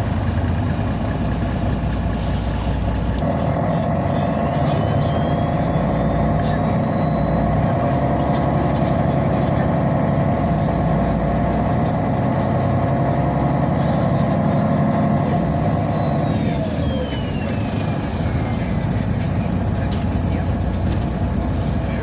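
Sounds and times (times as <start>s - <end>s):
bus drivetrain rumble and whine: 0.0s - 22.0s.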